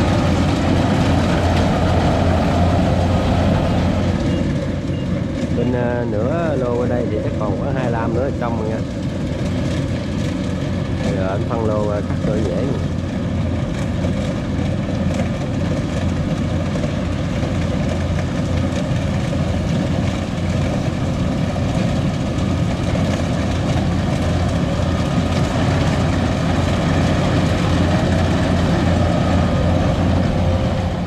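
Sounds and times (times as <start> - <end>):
combine harvester diesel engine: 0.0 - 31.0.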